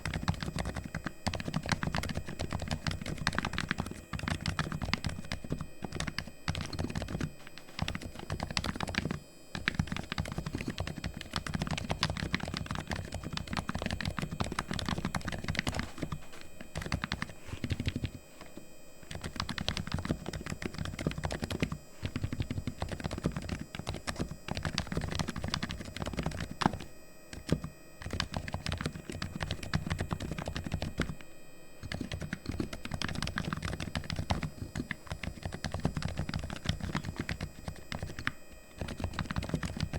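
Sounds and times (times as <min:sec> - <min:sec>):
fast keyboard typing: 0:00.0 - 0:18.2, 0:19.0 - 0:31.2, 0:31.8 - 0:39.9.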